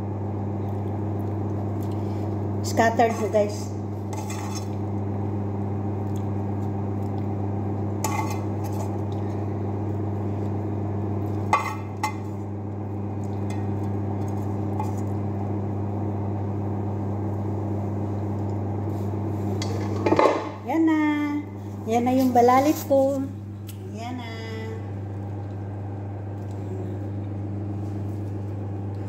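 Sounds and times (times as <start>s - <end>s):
kitchen equipment humming: 0.0s - 29.0s.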